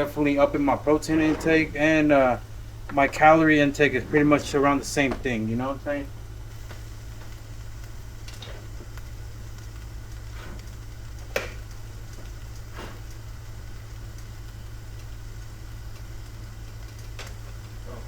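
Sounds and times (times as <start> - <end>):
low kitchen hum: 0.0 - 18.0.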